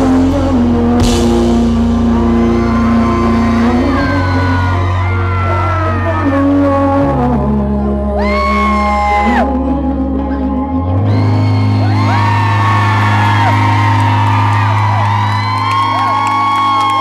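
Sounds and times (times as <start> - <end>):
man singing long notes: 0.0 - 14.1
fans singing along and whooping: 0.0 - 17.0
live rock band playing: 0.0 - 17.0.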